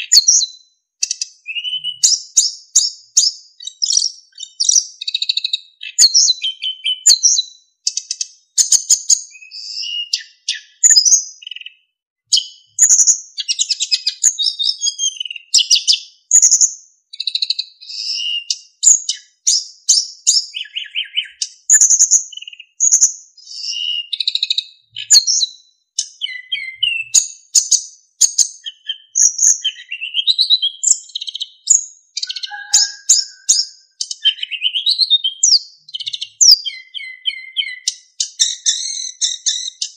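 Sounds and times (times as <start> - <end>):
bird singing twittering whistles: 0.0 - 39.9.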